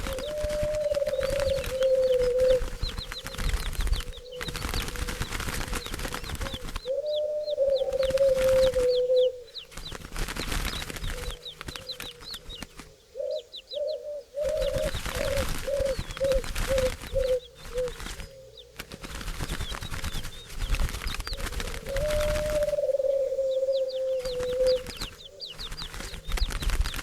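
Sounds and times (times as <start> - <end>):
low bird call: 0.0 - 10.0, 10.7 - 18.8, 21.3 - 26.9
noisy rustling: 0.0 - 13.1, 14.4 - 27.0
small birds chirping: 0.0 - 27.0.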